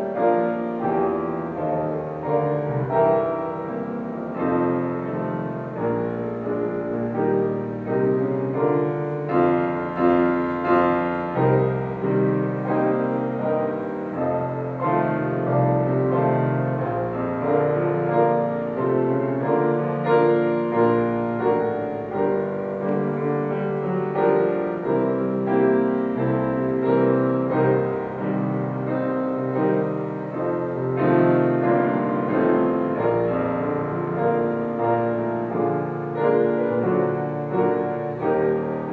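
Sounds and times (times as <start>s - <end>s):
slow gentle solo piano: 0.0s - 38.9s.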